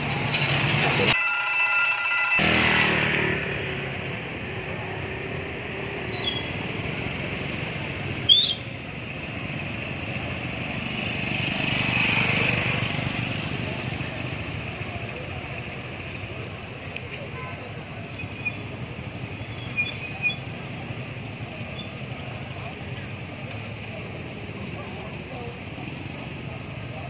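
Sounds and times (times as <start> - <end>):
scooters and motorbikes on wet road: 0.0 - 1.2, 2.4 - 27.0.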